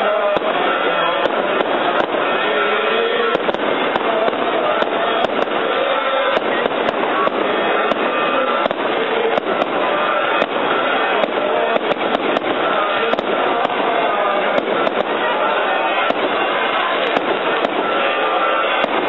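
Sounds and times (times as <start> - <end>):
dense fireworks din: 0.0 - 19.0
firecrackers cracking: 0.0 - 19.0.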